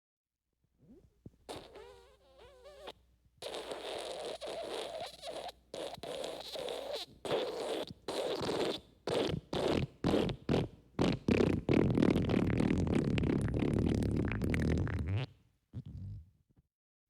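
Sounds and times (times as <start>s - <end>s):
cartoon wet fart: 0.9s - 16.3s.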